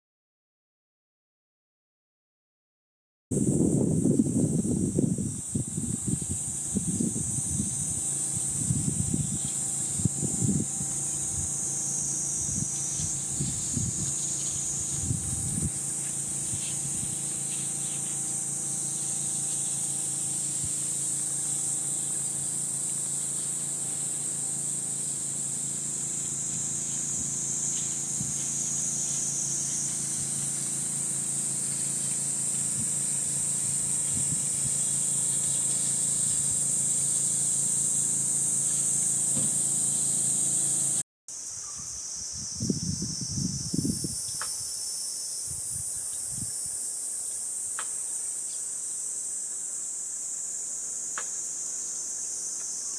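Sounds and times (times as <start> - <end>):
cicadas droning: 3.4 - 52.9.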